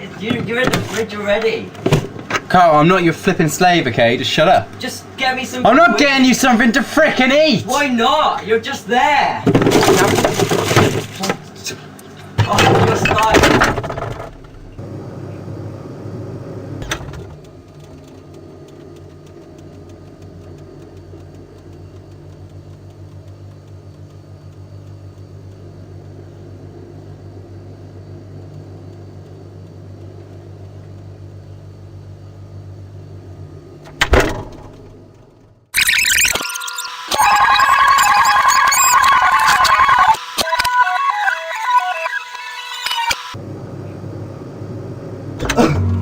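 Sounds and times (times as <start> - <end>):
microwave oven humming: 0.0 - 35.7, 42.2 - 46.0.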